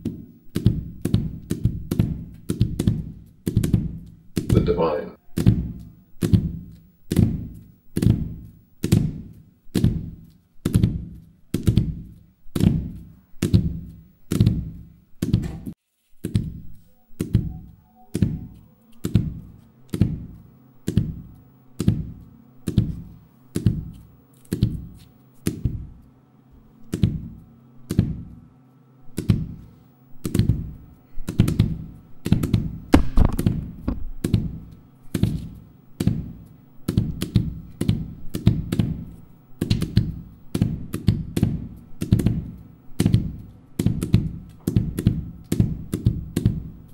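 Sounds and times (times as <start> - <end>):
rubber ball bouncing on hard surface: 0.0 - 4.7, 5.3 - 15.6, 16.2 - 25.9, 26.9 - 28.4, 29.2 - 29.6, 30.2 - 46.8
faint steady hum: 0.0 - 46.9.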